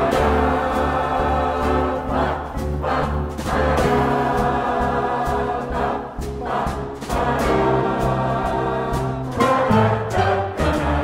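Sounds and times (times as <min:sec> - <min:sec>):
drums: 0:00.0 - 0:11.0
piano: 0:00.0 - 0:11.0
trombone: 0:00.0 - 0:11.0
upright bass: 0:00.0 - 0:11.0.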